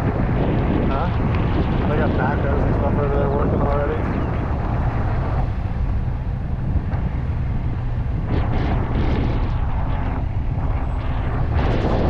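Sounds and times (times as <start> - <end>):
road rumble of vehicle: 0.0 - 12.0
wind on microphone: 0.0 - 12.0.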